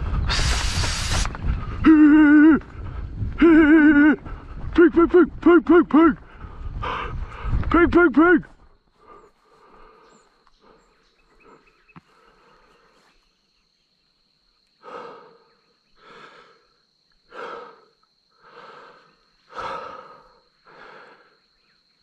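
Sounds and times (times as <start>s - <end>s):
person breathing heavily: 0.0s - 5.4s, 6.2s - 7.7s, 8.9s - 13.2s, 14.8s - 21.7s.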